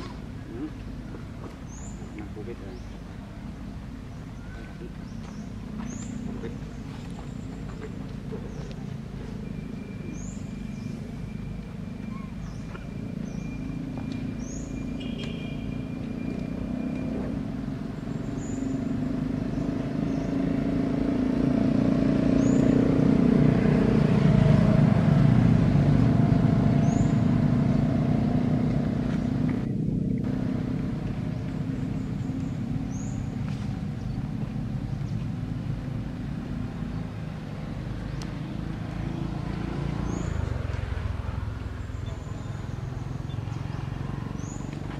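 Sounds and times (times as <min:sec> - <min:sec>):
passing vehicle rumble: 0:00.0 - 0:44.9.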